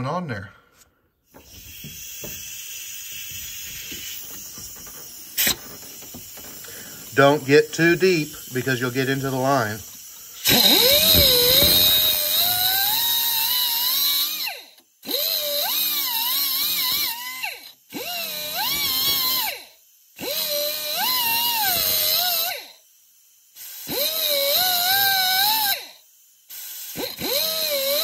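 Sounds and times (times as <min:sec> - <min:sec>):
cutoff wheel cutting metal: 0:01.3 - 0:22.8, 0:23.6 - 0:28.0.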